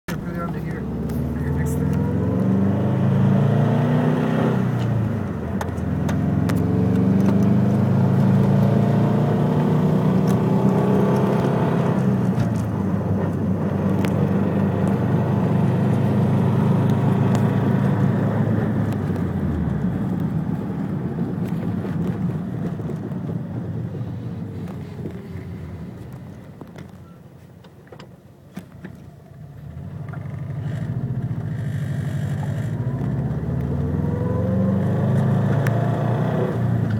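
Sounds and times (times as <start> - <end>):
car engine revving: 0.1 - 23.1, 29.6 - 36.9.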